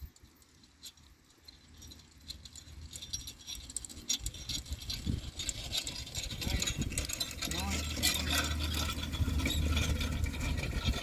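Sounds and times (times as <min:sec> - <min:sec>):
harness and carriage jingling: 0:00.0 - 0:11.0.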